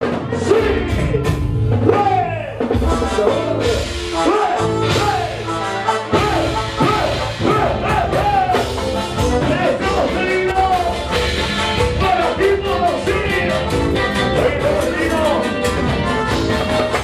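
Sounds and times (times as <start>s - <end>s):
bass: 0.0s - 17.0s
bending lead melody: 0.0s - 17.0s
drum kit: 0.0s - 17.0s.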